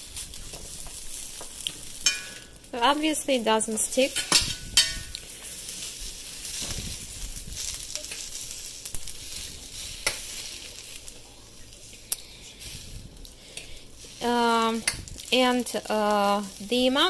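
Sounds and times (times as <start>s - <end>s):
dumplings sizzling in a frying pan: 0.0s - 17.0s.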